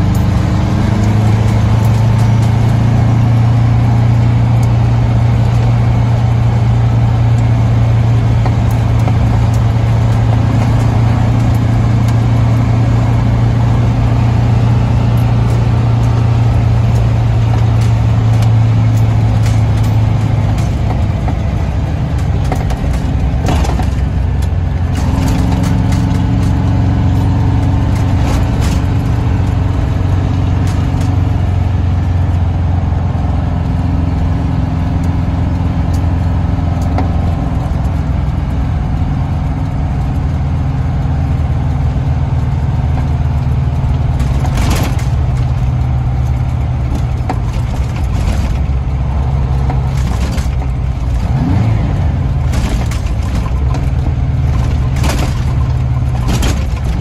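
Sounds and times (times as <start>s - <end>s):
truck diesel engine from inside cab: 0.0s - 57.0s.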